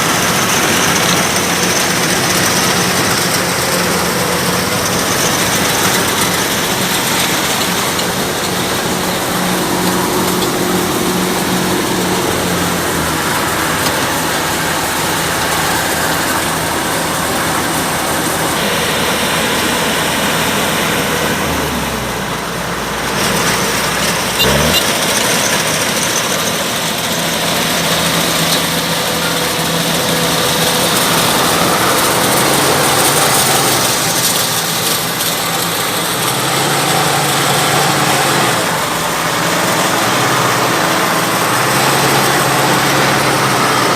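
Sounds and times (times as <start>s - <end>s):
combine harvester engine drone: 0.0s - 43.9s.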